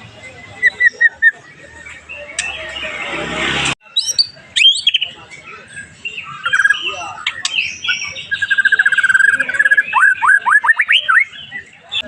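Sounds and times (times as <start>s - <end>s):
bird singing varied song: 0.0s - 12.0s.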